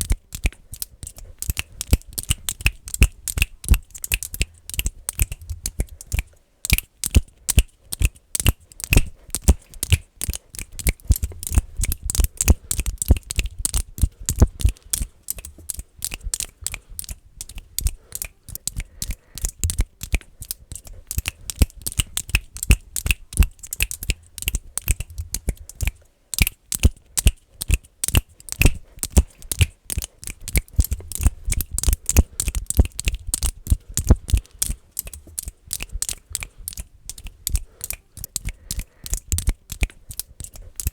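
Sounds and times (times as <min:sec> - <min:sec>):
fast finger clicking: 0:00.0 - 0:40.9.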